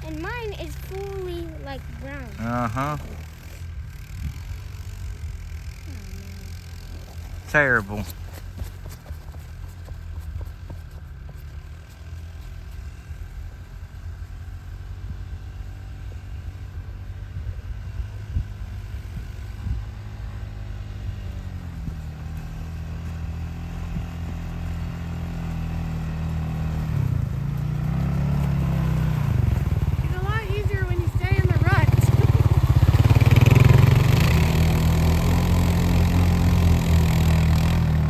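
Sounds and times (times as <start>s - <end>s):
off-road vehicle engine running: 0.0s - 38.0s.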